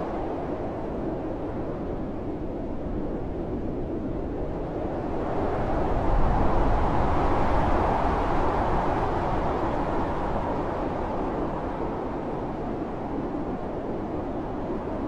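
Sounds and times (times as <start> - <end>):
blizzard wind blowing hard: 0.0 - 15.0.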